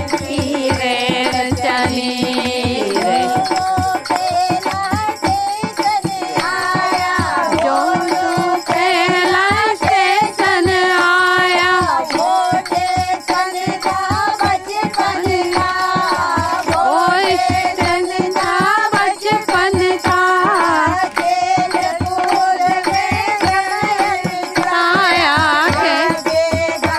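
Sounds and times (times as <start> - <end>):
rhythmic hand clapping: 0.0 - 26.9
women singing devotional song: 0.0 - 26.9.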